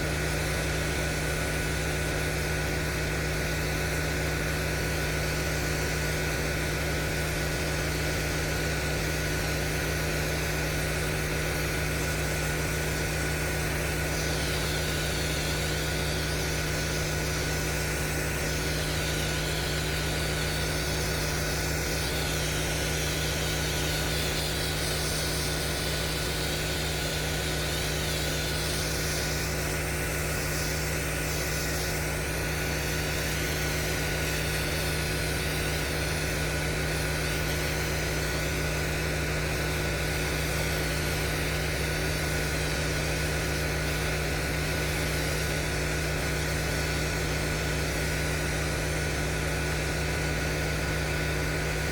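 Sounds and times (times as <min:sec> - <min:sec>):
pressure washer engine running: 0:00.0 - 0:51.9
water spraying on concrete: 0:00.0 - 0:51.9.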